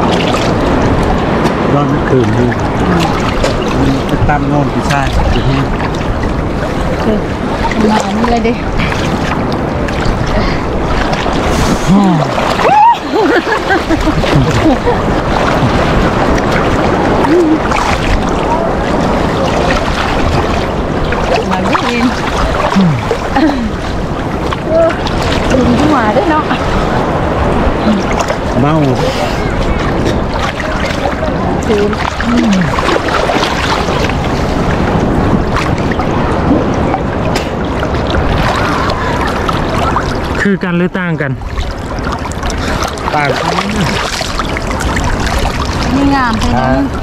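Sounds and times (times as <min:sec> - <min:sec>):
sea surf sloshing and splashing: 0:00.0 - 0:47.0
wind buffeting microphone: 0:00.0 - 0:47.0.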